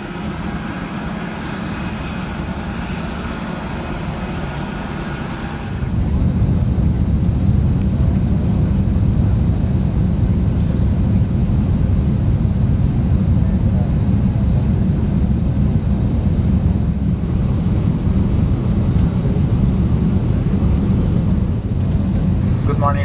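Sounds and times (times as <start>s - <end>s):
jet aircraft rumble: 0.0s - 23.0s.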